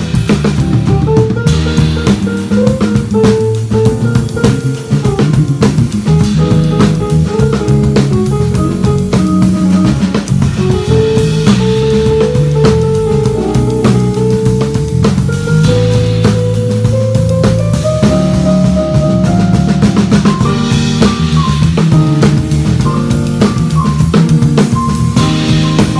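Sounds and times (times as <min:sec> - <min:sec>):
drum kit hits: 0:00.0 - 0:25.9
funky jazz band playing: 0:00.0 - 0:25.9.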